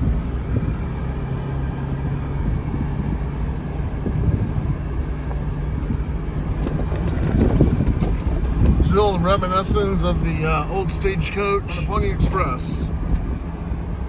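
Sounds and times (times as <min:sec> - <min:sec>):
road rumble: 0:00.0 - 0:14.0
vehicle engine drone: 0:00.0 - 0:14.0.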